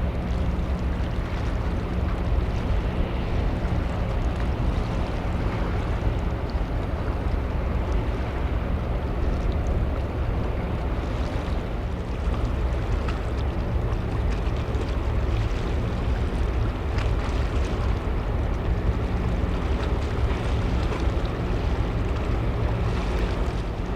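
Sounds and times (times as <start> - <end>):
ferry engines humming: 0.0 - 23.9
wind noise on microphone: 0.0 - 23.9.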